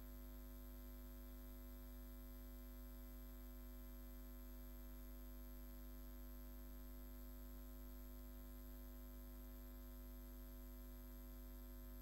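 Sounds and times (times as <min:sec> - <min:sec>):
electrical hum with hiss: 0:00.0 - 0:12.0.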